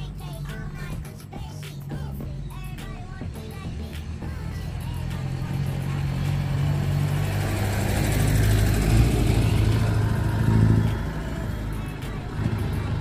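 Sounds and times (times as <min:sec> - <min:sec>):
truck driving past: 0:00.0 - 0:13.0.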